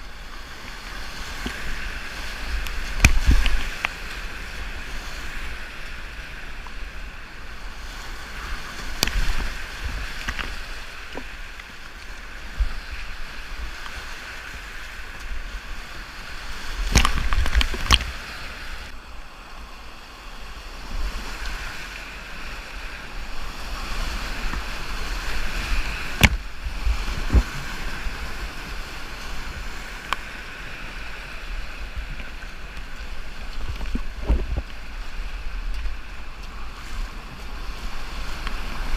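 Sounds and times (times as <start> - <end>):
wind noise on microphone: 0.0 - 11.6, 12.4 - 19.0, 20.6 - 38.9
river rushing: 0.0 - 38.9.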